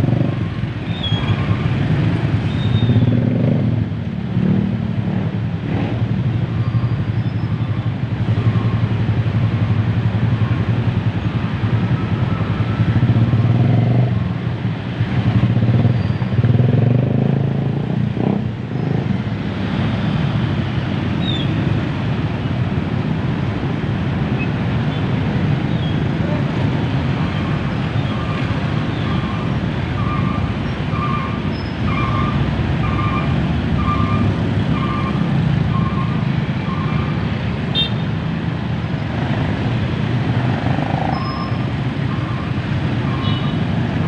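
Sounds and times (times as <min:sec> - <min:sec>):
drone of traffic engines: 0:00.0 - 0:44.0.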